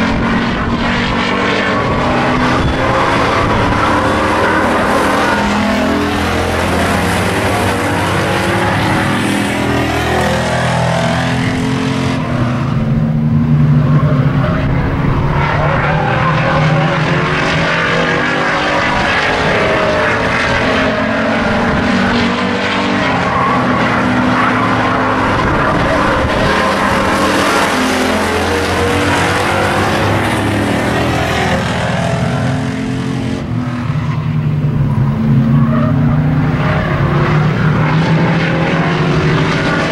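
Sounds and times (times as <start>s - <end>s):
race car engines revving: 0.0s - 39.9s.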